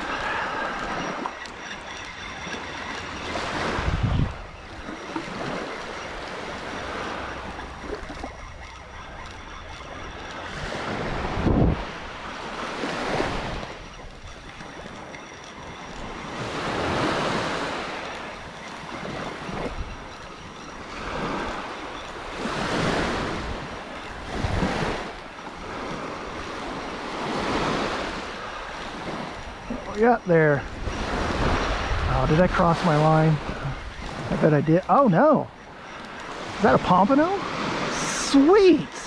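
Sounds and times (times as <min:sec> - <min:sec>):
small waves breaking on sand: 0:00.0 - 0:01.7, 0:02.9 - 0:08.4, 0:10.1 - 0:39.0
wind buffeting microphone: 0:00.0 - 0:39.0.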